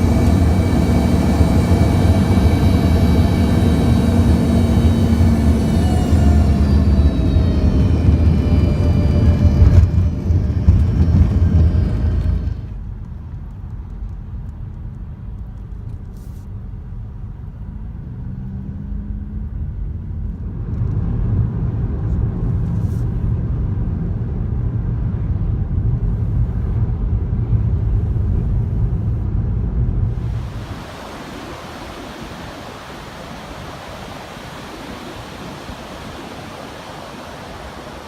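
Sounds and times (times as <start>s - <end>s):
road rumble: 0.0s - 38.0s
vehicle engine hum: 0.0s - 38.0s.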